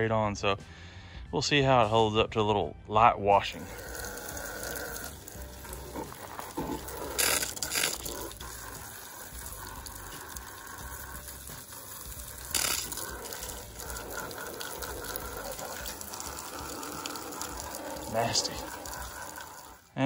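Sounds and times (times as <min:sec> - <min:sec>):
hose water splashing: 0:03.5 - 0:20.0.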